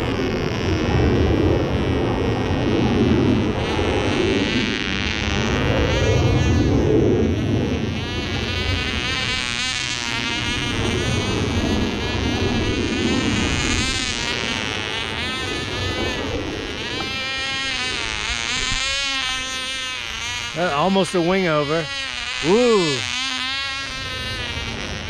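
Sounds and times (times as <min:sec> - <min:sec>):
model plane engine whining: 0:00.0 - 0:25.0.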